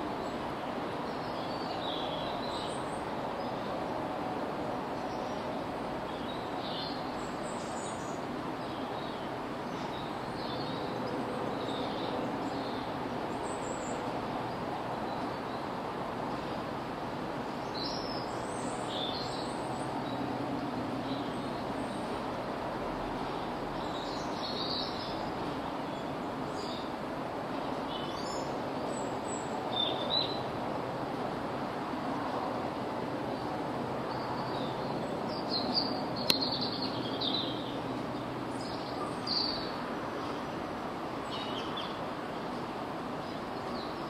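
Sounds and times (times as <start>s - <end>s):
distant traffic hum: 0.0s - 44.0s.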